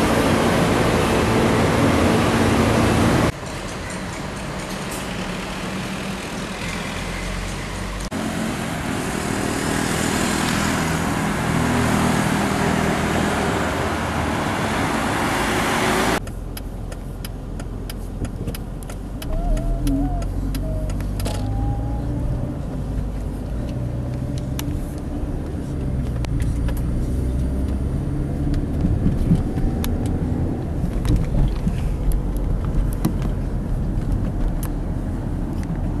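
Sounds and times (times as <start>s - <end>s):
traffic rush: 0.0s - 36.0s
vehicle engine drone: 0.0s - 36.0s.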